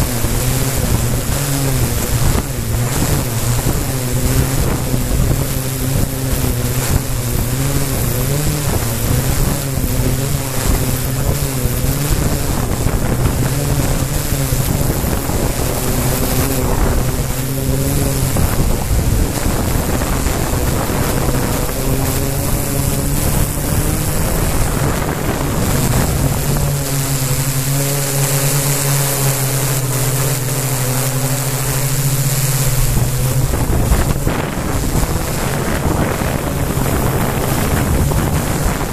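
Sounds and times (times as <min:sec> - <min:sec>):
drone propellers humming: 0:00.0 - 0:38.9
wind noise on microphone: 0:00.0 - 0:38.9.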